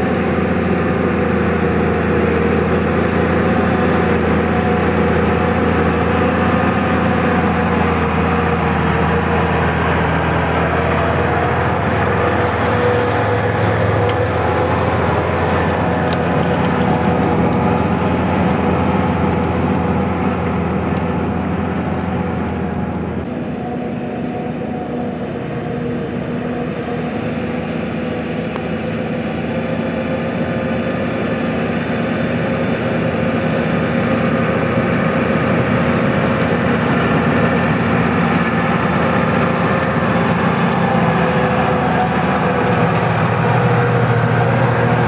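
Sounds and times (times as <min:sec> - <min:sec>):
tractor diesel engine under load: 0:00.0 - 0:45.0.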